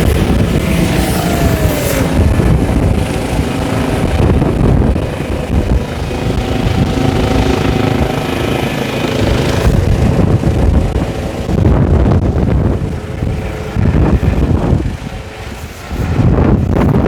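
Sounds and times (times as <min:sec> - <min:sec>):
helicopter engine and rotor: 0:00.0 - 0:17.0
wind buffeting microphone: 0:00.0 - 0:17.0.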